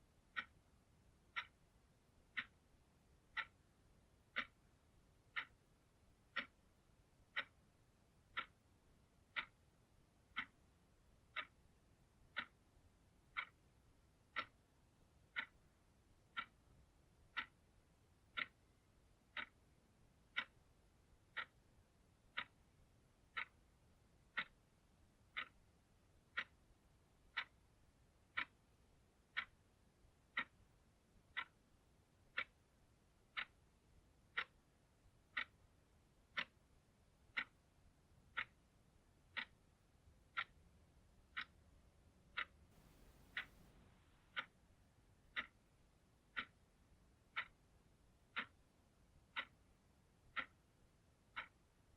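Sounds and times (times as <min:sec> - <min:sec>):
clock ticking: 0:00.0 - 0:51.9.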